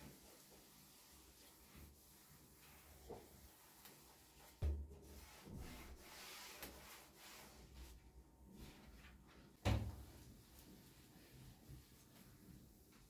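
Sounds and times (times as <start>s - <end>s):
cloth wiping cabinet: 0.0s - 13.0s.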